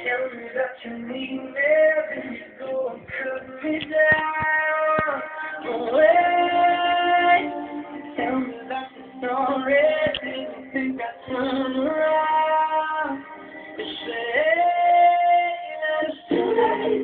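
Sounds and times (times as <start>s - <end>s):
person singing long sliding notes: 0.0s - 17.0s.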